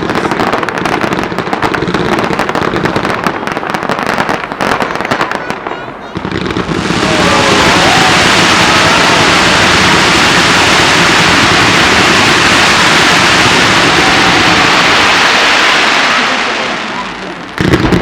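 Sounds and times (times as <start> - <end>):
fireworks crackling roar: 0.0 - 18.0.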